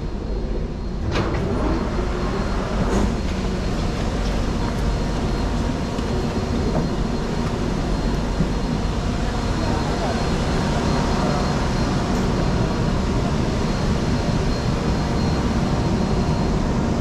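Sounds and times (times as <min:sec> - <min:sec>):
train humming at platform: 0:00.0 - 0:17.0
train doors opening: 0:00.8 - 0:16.9.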